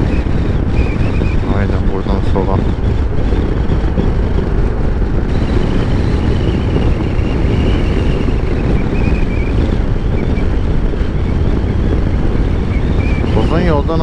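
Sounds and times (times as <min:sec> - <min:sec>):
motorcycle engine: 0:00.0 - 0:14.0
wind rush on microphone: 0:00.0 - 0:14.0.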